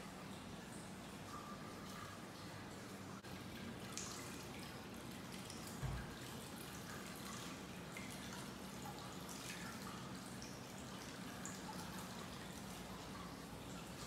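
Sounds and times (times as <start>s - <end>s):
water drips: 0.0s - 14.0s
water trickling into tub: 0.0s - 14.0s.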